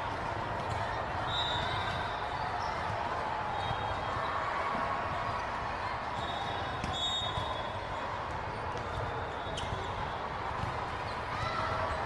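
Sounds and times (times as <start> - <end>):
hubbub of voices: 0.0 - 12.0.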